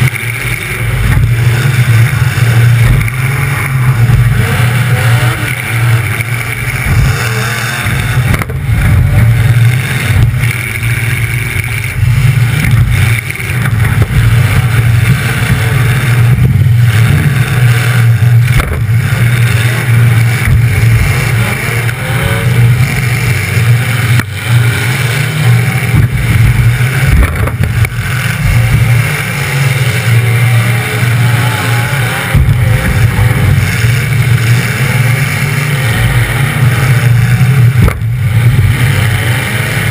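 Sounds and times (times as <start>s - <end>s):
loud car engine revving: 0.0s - 39.9s.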